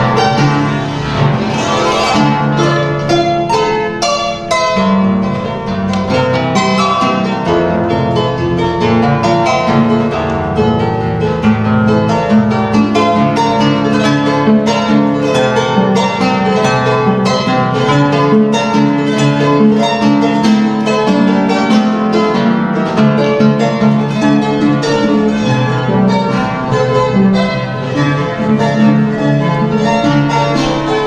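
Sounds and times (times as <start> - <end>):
harp playing lively tune: 0.0 - 31.0.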